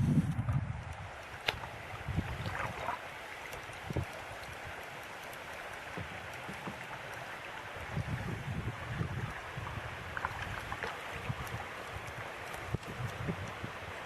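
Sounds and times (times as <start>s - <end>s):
creek current rushing: 1.0s - 12.8s.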